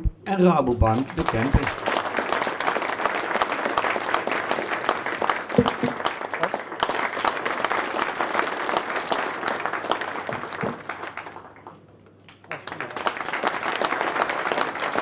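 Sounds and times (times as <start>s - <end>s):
audience applauding: 0.8s - 15.0s.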